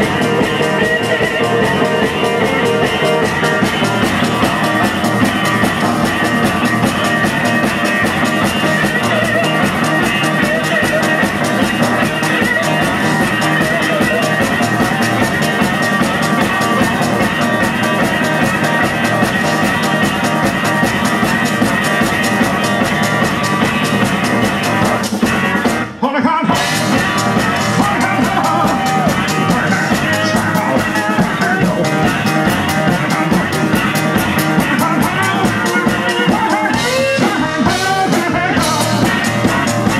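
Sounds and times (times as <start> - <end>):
country blues band playing: 0.0 - 39.9.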